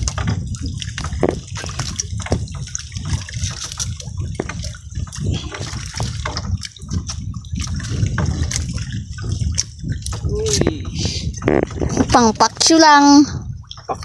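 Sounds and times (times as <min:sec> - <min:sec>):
water dripping and splashing: 0:00.0 - 0:14.0.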